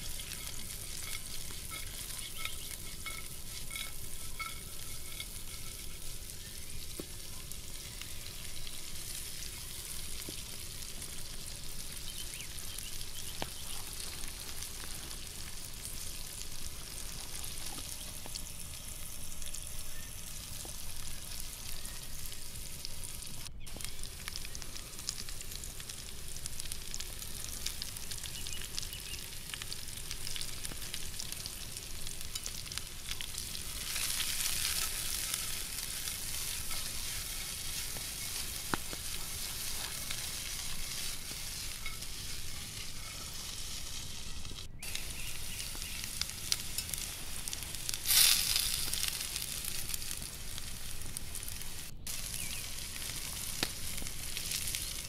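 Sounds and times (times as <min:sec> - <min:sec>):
meat sizzling in a frying pan: 0:00.0 - 0:55.0.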